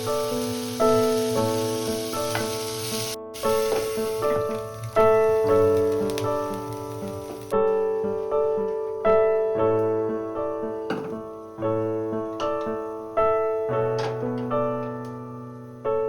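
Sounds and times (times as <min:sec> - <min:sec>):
soft solo piano music: 0:00.0 - 0:16.0.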